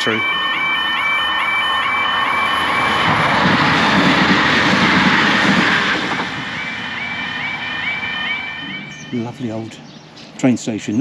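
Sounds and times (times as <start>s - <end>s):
crossing alarm warbling: 0.0s - 10.5s
train rushing past: 0.0s - 10.9s.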